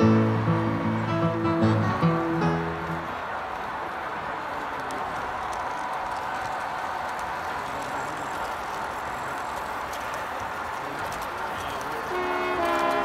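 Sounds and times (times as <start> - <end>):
model train running on track: 2.1 - 13.0.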